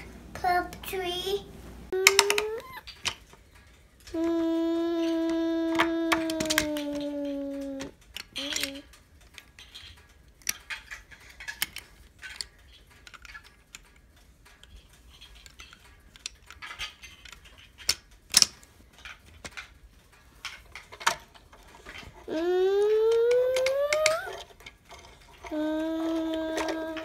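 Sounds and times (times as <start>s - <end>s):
plastic toy parts clicking: 2.0s - 27.0s.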